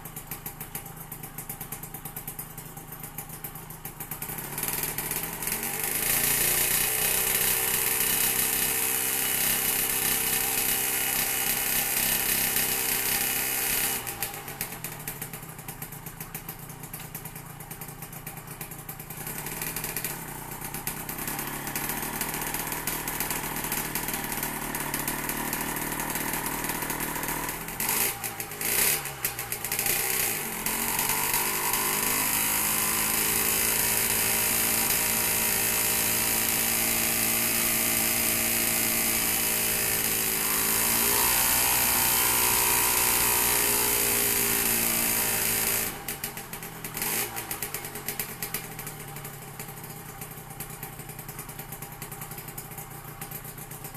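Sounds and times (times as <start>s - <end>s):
small petrol engine revving: 4.1s - 53.9s.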